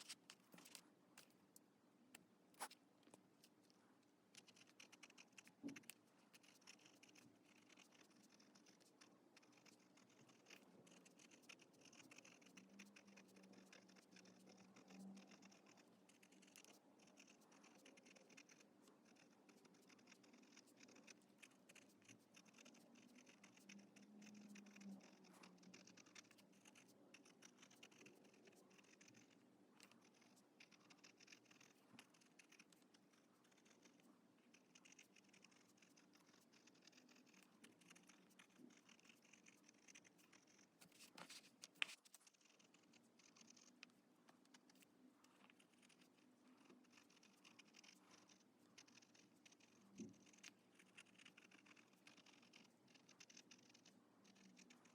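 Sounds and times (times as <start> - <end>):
fountain pen scratching on paper: 0.0 - 1.4, 2.5 - 2.8, 3.4 - 54.9.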